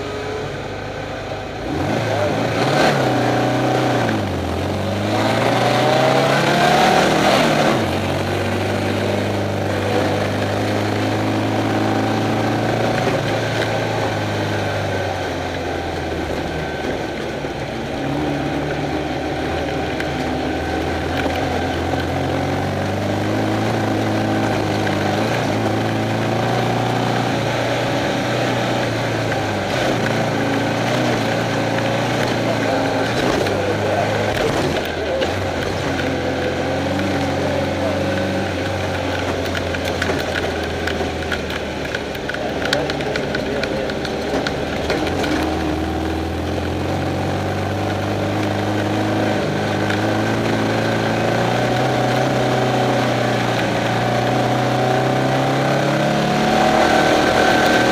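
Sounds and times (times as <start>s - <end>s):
race car engine pulling hard: 0.0s - 57.9s
steady rushing noise: 0.0s - 57.9s.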